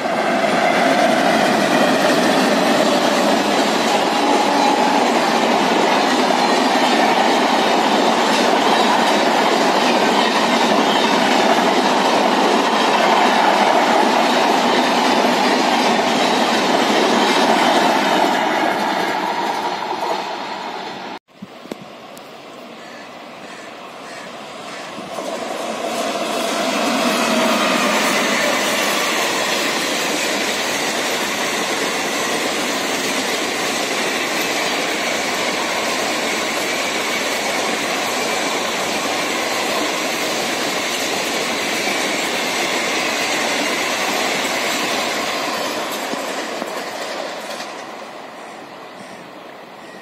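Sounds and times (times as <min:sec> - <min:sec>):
coach wheels on rails: 0:00.0 - 0:22.4, 0:24.4 - 0:50.0
electric train passing at speed: 0:00.0 - 0:50.0.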